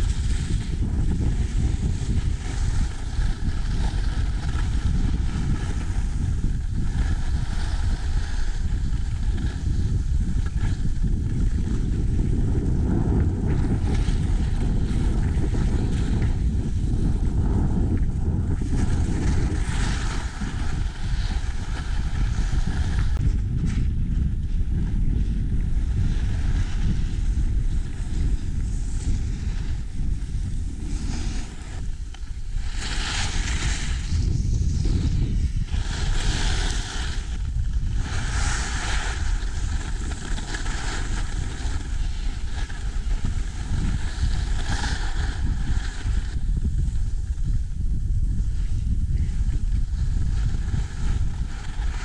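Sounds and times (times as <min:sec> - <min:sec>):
skis sliding on snow: 0:00.0 - 0:23.9, 0:24.6 - 0:52.0
wind buffeting microphone: 0:00.0 - 0:52.0.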